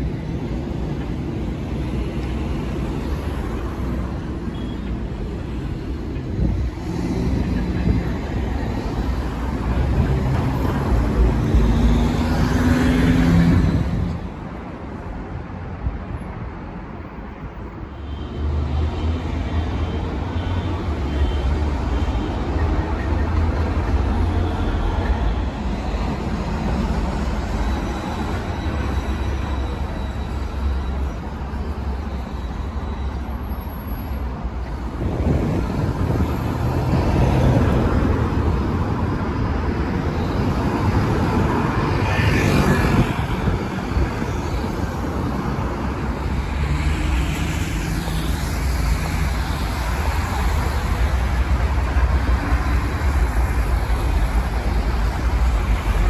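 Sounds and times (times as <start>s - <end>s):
cars going by: 0.0s - 56.0s
trams going by: 0.0s - 56.0s.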